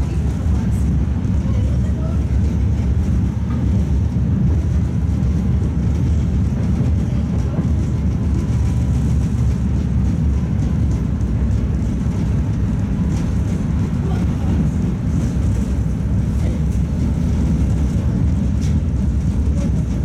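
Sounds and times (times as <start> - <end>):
tram rumbling: 0.0 - 20.0.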